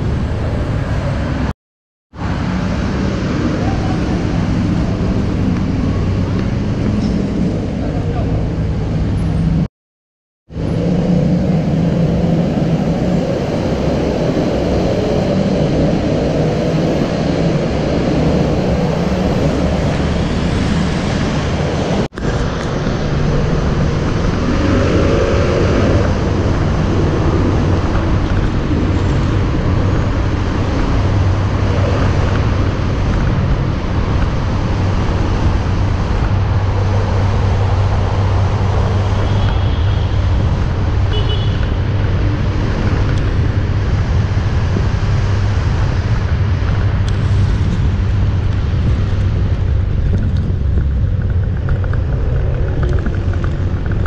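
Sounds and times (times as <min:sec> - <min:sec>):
road and wind noise: 0:00.0 - 0:09.7, 0:10.5 - 0:54.0.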